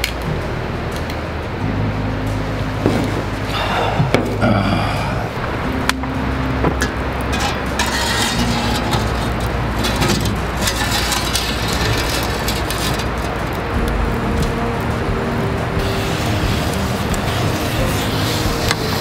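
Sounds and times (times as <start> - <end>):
fire crackling and popping: 0.0 - 19.0
wood fire burning: 0.0 - 19.0.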